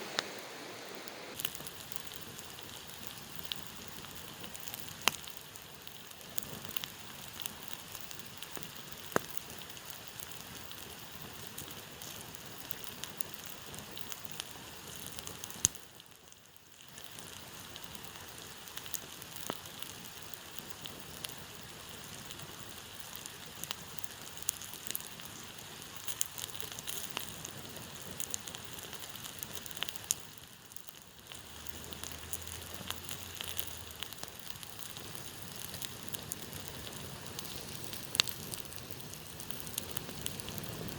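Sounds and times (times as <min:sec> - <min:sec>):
campfire crackling and popping: 0:00.0 - 0:40.9
fire hissing: 0:00.0 - 0:40.9.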